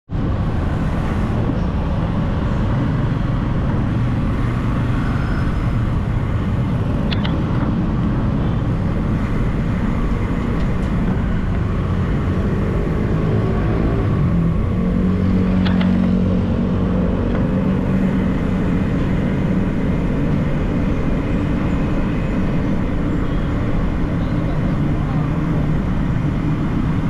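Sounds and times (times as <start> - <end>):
road traffic rumble: 0.1 - 27.0.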